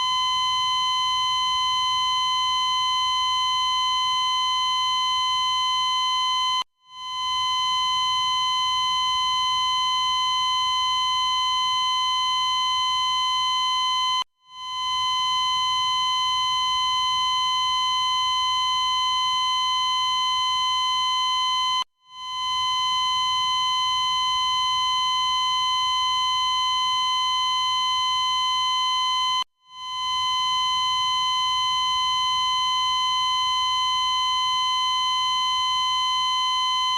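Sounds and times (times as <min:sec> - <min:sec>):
cardiac monitor flatline tone: 0:00.0 - 0:36.9.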